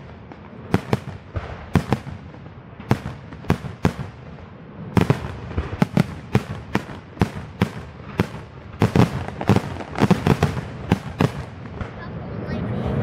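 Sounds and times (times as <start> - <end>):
fireworks bangs with low rumble: 0.0 - 13.0.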